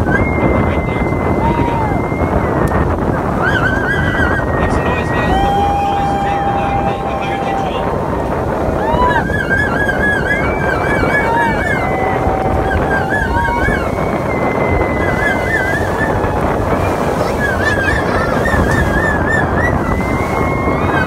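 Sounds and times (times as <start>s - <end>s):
high warbling whistle: 0.0s - 8.2s, 8.8s - 21.0s
water rushing in boat wake: 0.0s - 21.0s
wind on microphone: 0.0s - 21.0s.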